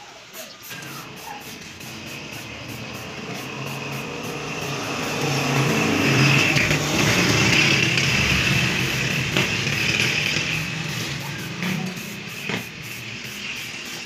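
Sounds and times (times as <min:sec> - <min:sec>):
vehicle engine running: 0:00.6 - 0:14.0.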